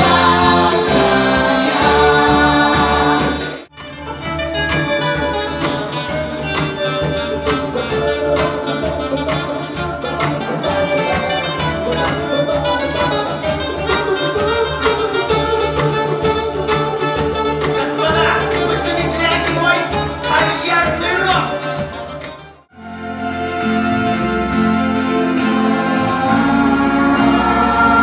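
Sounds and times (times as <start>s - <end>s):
orchestra playing: 0.0s - 28.0s.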